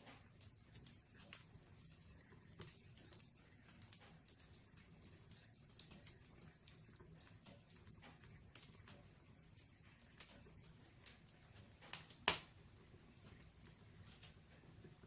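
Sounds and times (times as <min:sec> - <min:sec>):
low murmur of flame: 0:00.0 - 0:15.0
wood fire crackling and popping: 0:00.0 - 0:15.0.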